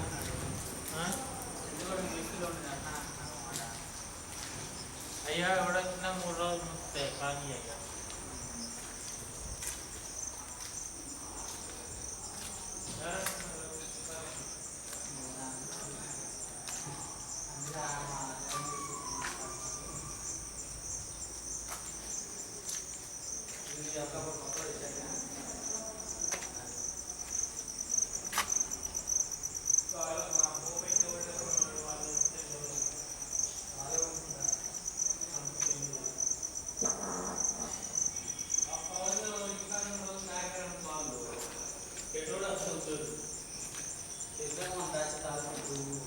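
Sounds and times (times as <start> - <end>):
faint distant voices: 0.0 - 46.0
insect chorus trilling: 0.0 - 46.0.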